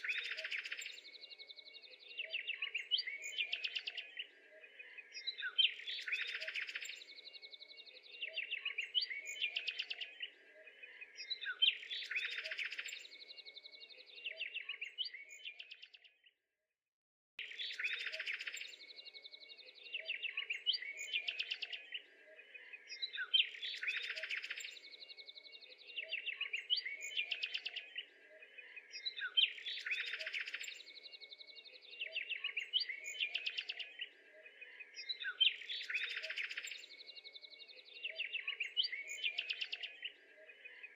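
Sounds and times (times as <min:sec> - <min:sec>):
small birds chirping and trilling: 0:00.0 - 0:16.3, 0:17.4 - 0:40.9.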